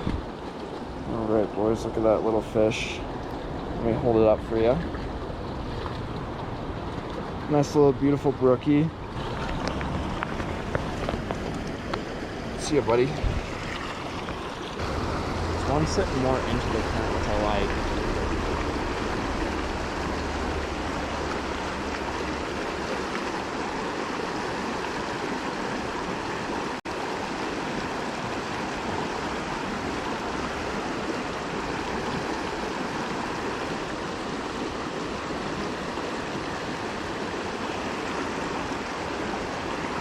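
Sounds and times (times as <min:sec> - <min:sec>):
creek water rushing: 0:00.0 - 0:40.0.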